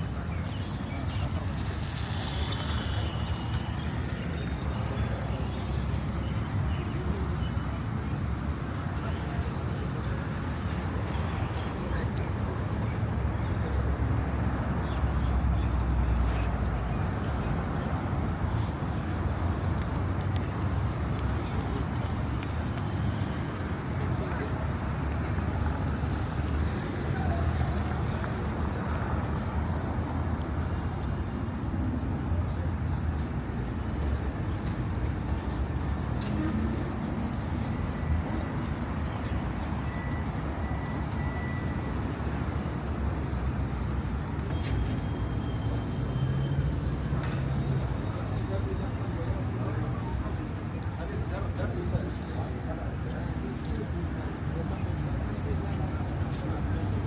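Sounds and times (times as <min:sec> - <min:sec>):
faint crowd chatter: 0:00.0 - 0:57.0
low rumble of traffic: 0:00.0 - 0:57.0.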